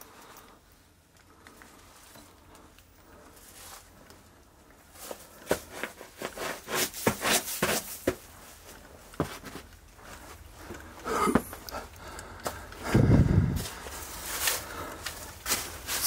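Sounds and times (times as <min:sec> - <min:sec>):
footsteps in a tunnel: 0:01.3 - 0:16.0.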